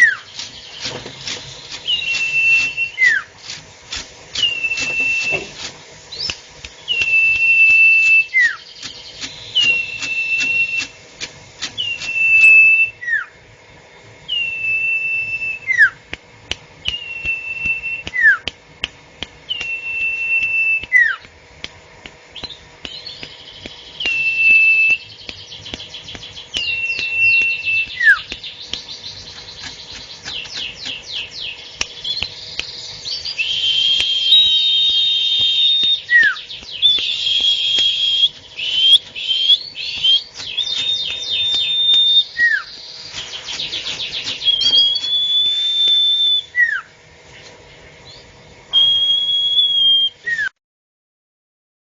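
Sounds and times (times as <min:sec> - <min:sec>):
bird whistling call: 0:00.0 - 0:03.3, 0:04.4 - 0:11.0, 0:11.6 - 0:13.4, 0:14.3 - 0:16.0, 0:16.8 - 0:18.5, 0:19.5 - 0:21.2, 0:22.4 - 0:46.9, 0:48.1 - 0:50.5
higher whistled bird notes: 0:00.0 - 0:03.3, 0:04.3 - 0:11.0, 0:11.6 - 0:13.4, 0:14.3 - 0:16.0, 0:16.8 - 0:18.4, 0:19.5 - 0:21.2, 0:22.4 - 0:46.9, 0:48.1 - 0:50.5.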